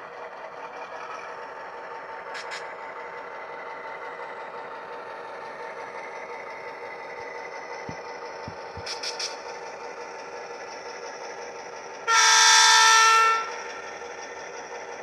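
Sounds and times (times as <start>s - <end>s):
model train diesel engine sound: 0.0s - 15.0s.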